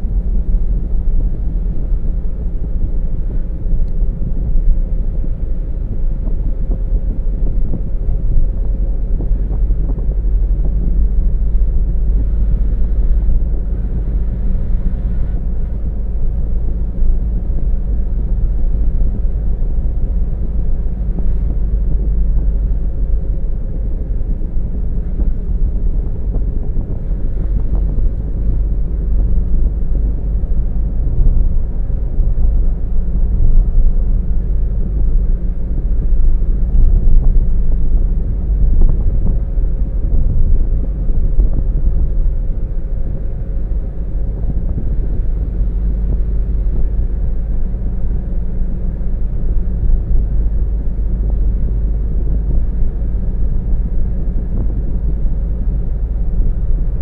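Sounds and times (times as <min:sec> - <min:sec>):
car engine and tyre rumble: 0:00.0 - 0:57.0
wind buffeting microphone: 0:00.0 - 0:57.0.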